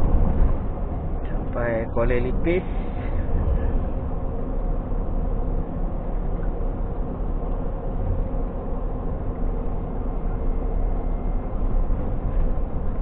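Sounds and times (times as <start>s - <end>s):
road noise: 0.0s - 13.0s
truck engine drone: 0.0s - 13.0s.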